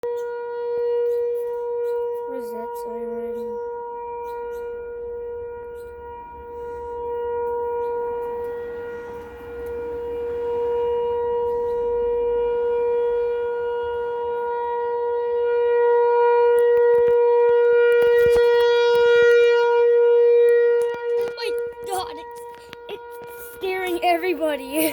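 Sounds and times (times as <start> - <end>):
warning siren steady tone: 0.0 - 24.9.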